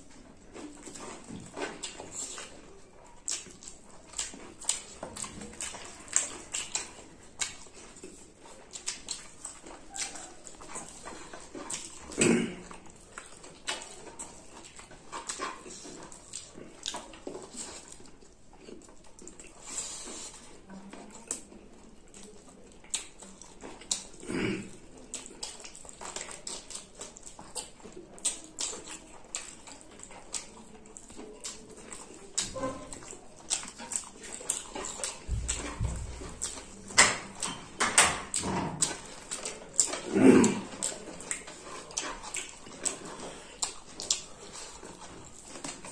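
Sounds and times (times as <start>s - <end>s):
wet chewing and lip-smacking: 0.0s - 45.9s.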